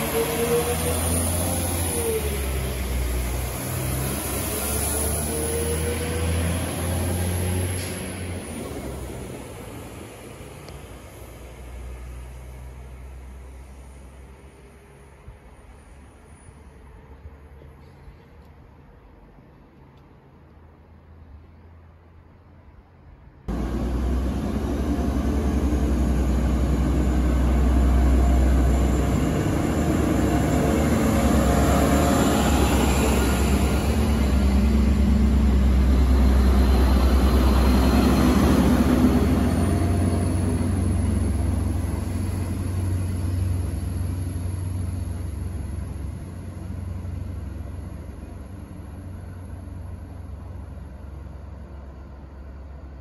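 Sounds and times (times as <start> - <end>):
diesel train engines pulling away: 0.0 - 53.0.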